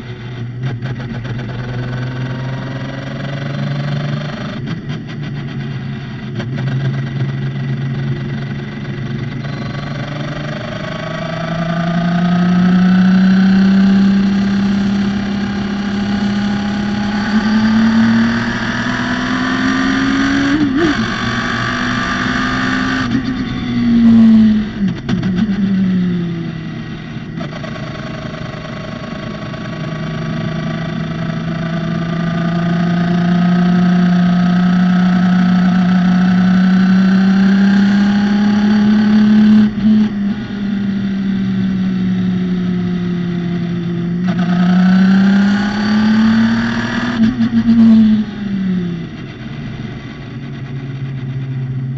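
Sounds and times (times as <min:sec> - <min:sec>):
race car engine accelerating: 0:06.5 - 0:25.6, 0:26.5 - 0:41.6, 0:42.4 - 0:51.5.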